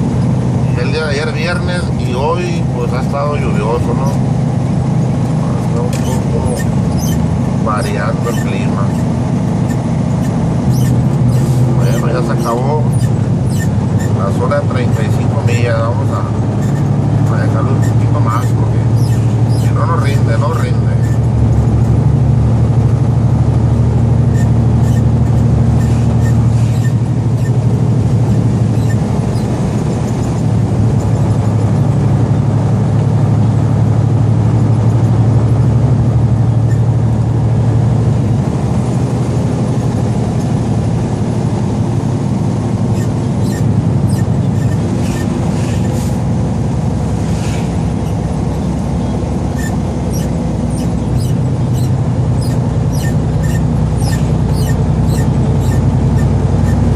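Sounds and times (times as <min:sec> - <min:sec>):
truck diesel engine droning: 0:00.0 - 0:56.9.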